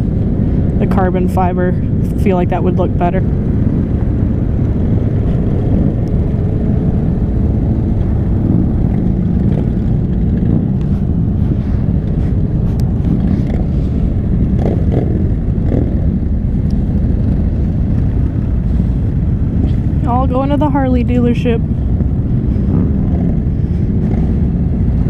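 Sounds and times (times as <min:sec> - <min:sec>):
motorcycle engines rumbling: 0:00.0 - 0:25.0.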